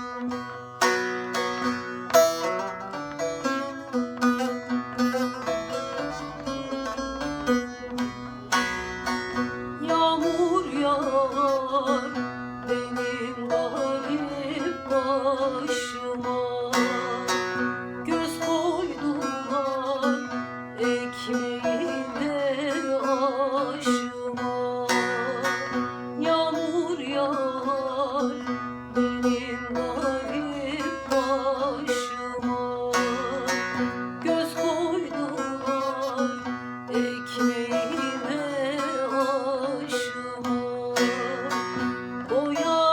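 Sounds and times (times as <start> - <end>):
plucked string instrument melody: 0.0 - 42.9.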